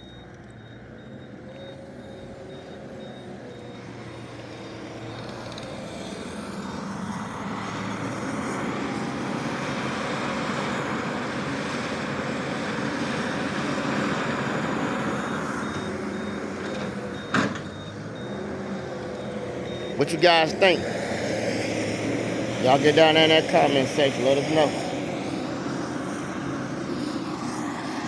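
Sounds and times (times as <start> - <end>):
skid steer engine under load: 0.0 - 27.5.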